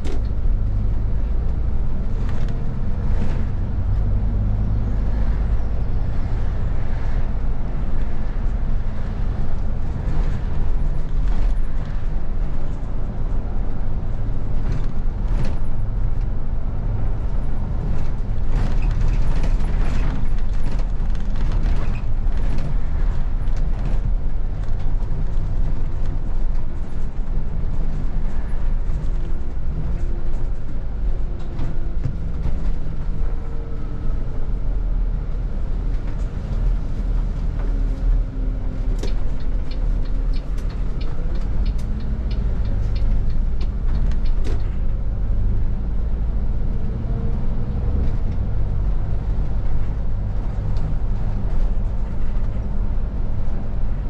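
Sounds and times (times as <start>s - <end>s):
bodywork rattles and creaks: 0.0s - 54.0s
bus engine and road rumble: 0.0s - 54.0s.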